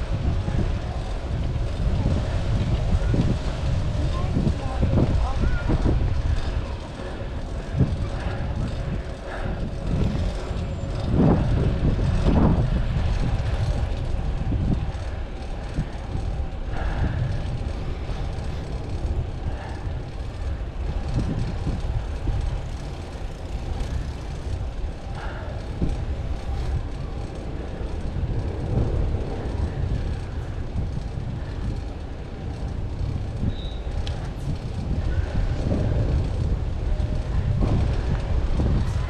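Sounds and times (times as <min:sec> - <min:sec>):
rumble of passing vehicles: 0:00.0 - 0:39.0.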